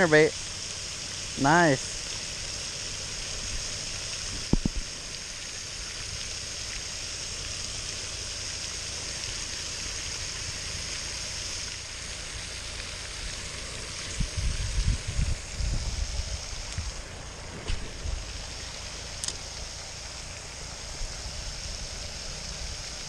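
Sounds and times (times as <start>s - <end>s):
fountain water splashing: 0.0s - 23.0s.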